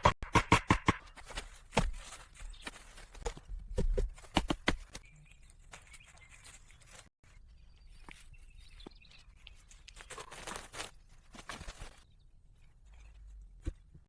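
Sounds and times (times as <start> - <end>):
rustling: 1.2 - 13.9.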